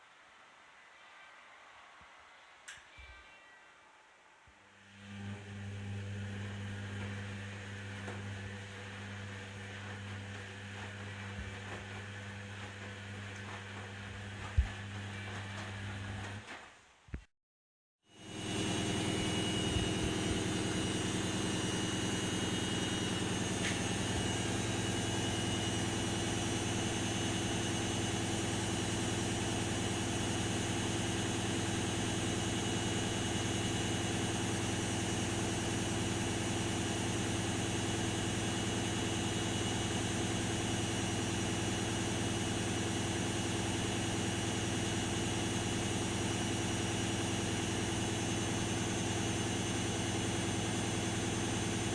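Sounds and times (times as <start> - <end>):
washing machine drum spinning: 5.3 - 16.6, 18.3 - 51.9.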